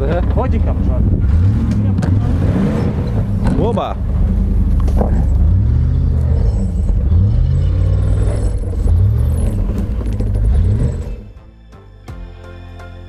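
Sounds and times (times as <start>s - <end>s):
engine revving hard: 0.0s - 11.3s.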